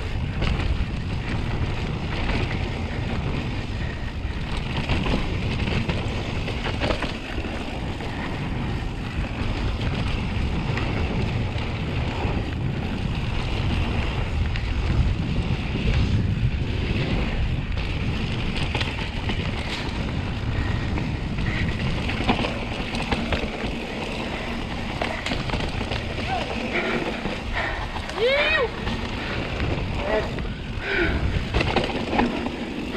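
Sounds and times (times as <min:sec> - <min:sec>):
bike rattling over bumps: 0:00.0 - 0:32.9
tyres rumbling on dirt: 0:00.0 - 0:32.9
wind buffeting microphone: 0:00.0 - 0:32.9.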